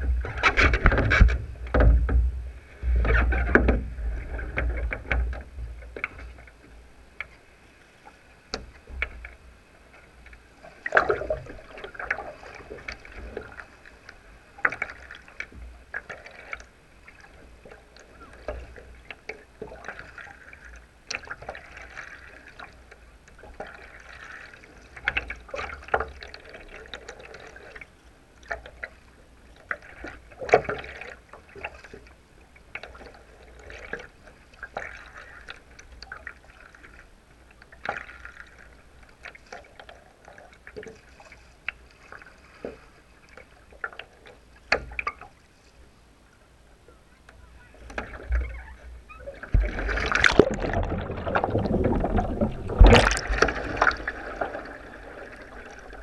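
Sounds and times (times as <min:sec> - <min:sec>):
paddle splashing in water: 0:00.0 - 0:56.0.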